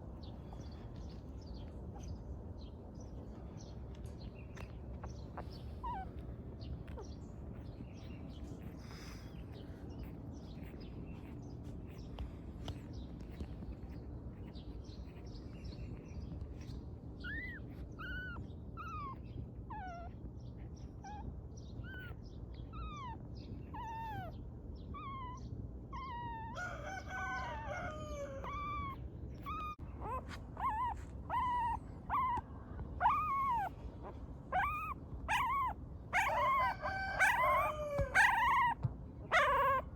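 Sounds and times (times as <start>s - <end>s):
low background hum: 0.0s - 39.9s
puppies whining: 0.0s - 39.9s.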